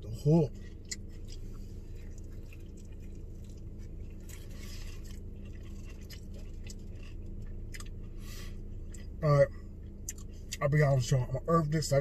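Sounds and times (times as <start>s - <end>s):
steady low hum: 0.0s - 12.0s
man chewing: 0.2s - 10.6s.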